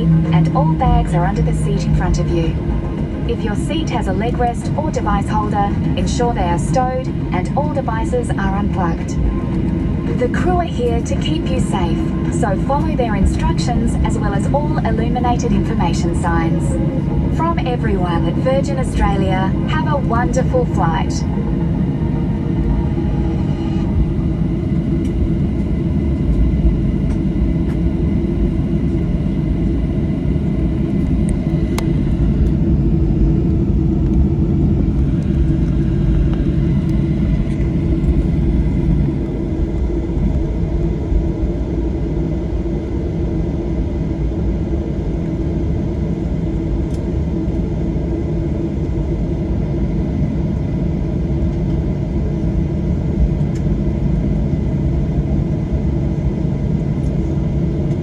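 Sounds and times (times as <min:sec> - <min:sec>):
jet engines idling in cabin: 0:00.0 - 0:58.0.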